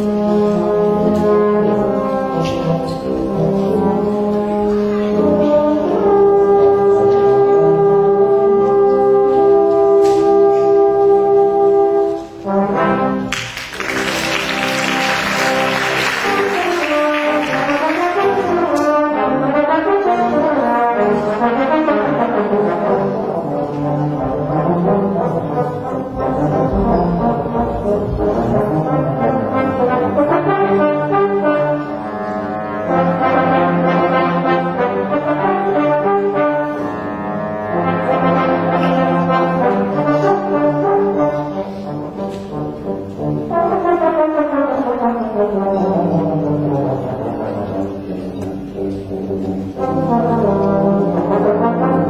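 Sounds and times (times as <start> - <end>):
low brass ensemble playing: 0.0 - 52.0.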